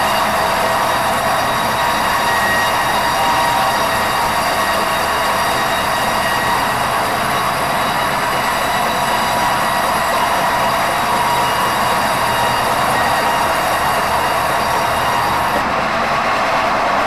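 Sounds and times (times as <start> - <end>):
mechanical running noise with whine: 0.0 - 17.0.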